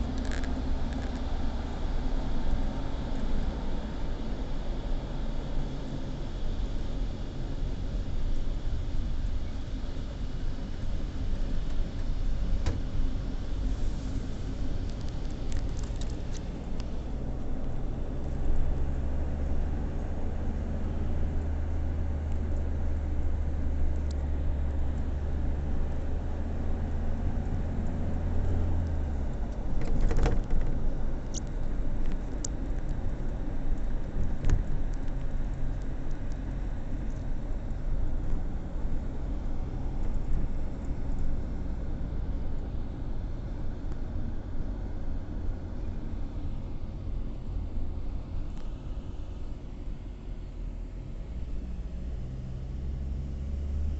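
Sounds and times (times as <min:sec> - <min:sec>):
car driving rumble: 0:00.0 - 0:53.9.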